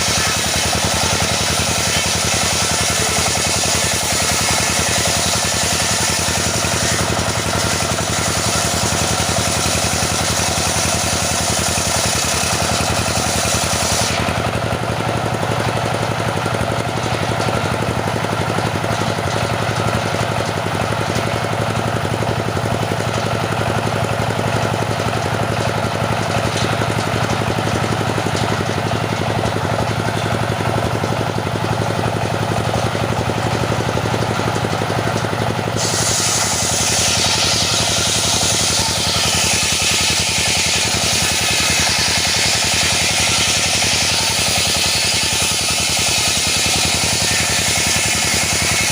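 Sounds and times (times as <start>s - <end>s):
circular saw engine running: 0.0s - 48.9s
saw cutting wood hiss: 0.0s - 48.9s.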